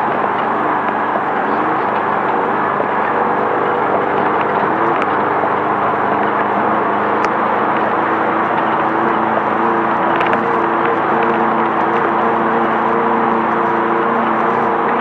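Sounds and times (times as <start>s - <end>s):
car engine running at speed: 0.0s - 15.0s
road noise: 0.0s - 15.0s.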